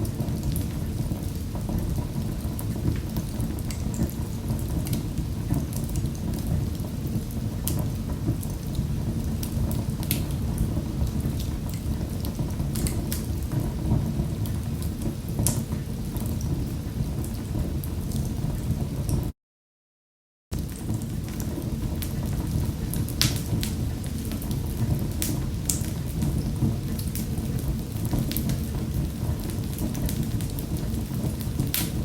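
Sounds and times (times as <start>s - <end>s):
wood fire crackling and popping: 0.0s - 19.2s, 20.6s - 32.0s
fire flames rumbling: 0.0s - 19.3s, 20.6s - 32.0s.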